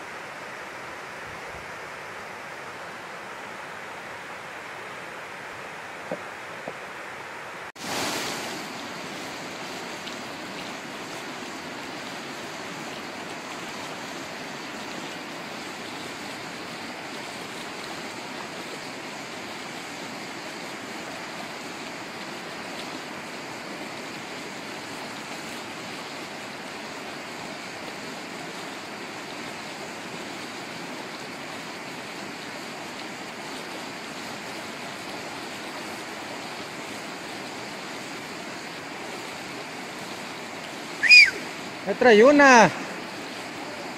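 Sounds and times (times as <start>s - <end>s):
river current rushing: 0.0s - 43.9s
water falling down dam face: 7.7s - 43.9s.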